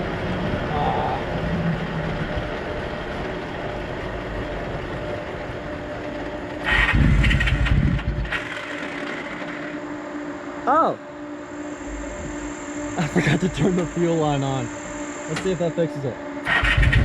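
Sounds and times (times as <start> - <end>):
motorcycle engine surging unevenly: 0.0 - 10.3, 11.6 - 17.0.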